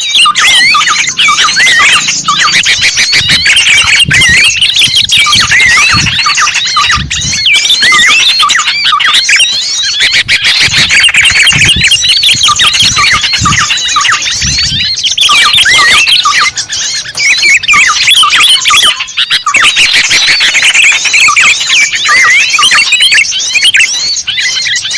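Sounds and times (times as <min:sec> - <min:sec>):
small birds chirping and twittering: 0:00.0 - 0:24.9.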